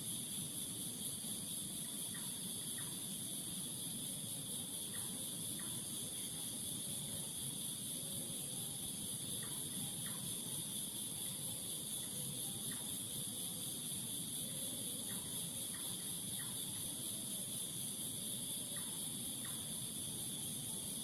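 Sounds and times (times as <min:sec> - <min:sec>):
crickets trilling: 0:00.0 - 0:21.0
faint insect chirps: 0:00.0 - 0:21.0.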